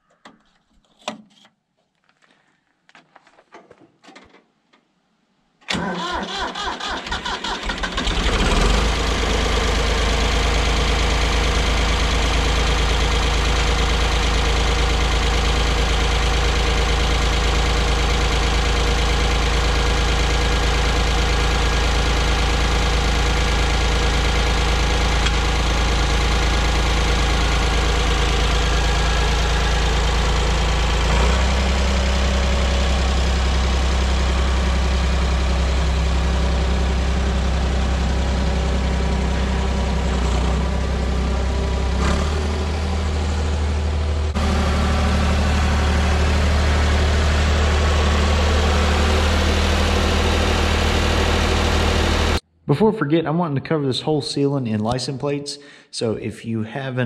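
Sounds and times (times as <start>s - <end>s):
tractor engine idling: 5.7s - 52.4s.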